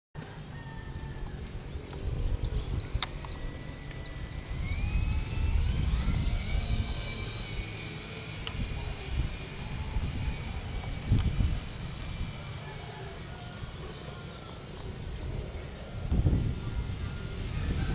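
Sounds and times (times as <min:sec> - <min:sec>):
constant low rumble: 0:00.2 - 0:17.9
motor whine rising in pitch: 0:00.2 - 0:17.9.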